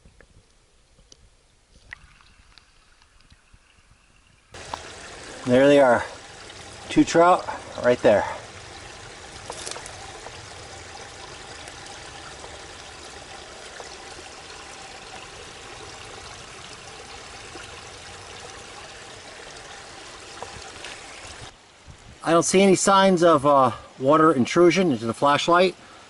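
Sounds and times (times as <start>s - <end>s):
stream water trickling: 0.0s - 26.0s.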